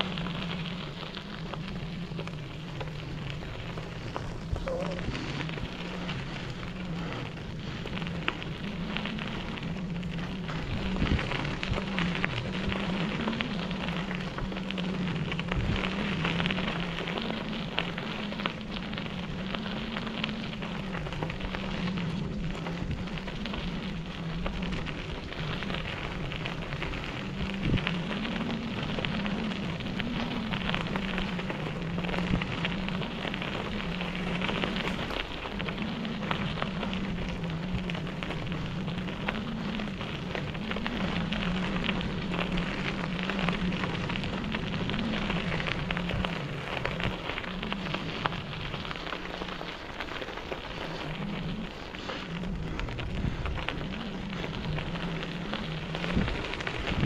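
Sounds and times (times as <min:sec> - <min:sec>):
bicycle tyres on gravel: 0:00.0 - 0:57.0
low wavering hum: 0:00.0 - 0:57.0.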